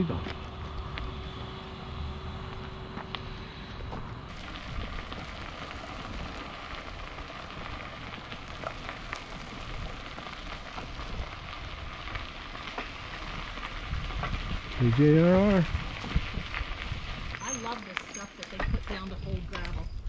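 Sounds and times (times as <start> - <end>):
bicycle tyres rolling on gravel: 0.0 - 20.0.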